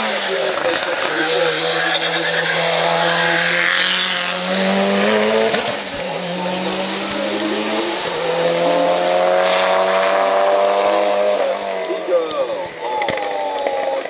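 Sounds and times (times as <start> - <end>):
race car engine at full throttle: 0.0 - 14.0.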